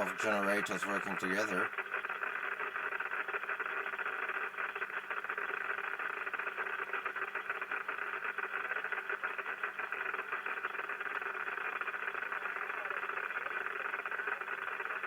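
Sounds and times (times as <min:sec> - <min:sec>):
radio static crackling: 0:00.0 - 0:15.0.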